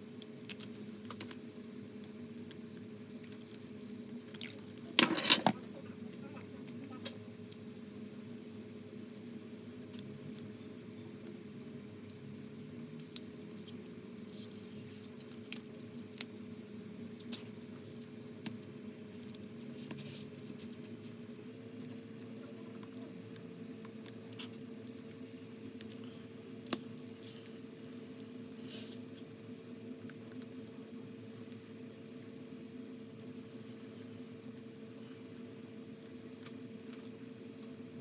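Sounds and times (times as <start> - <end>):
steady electrical hum: 0.0 - 38.0.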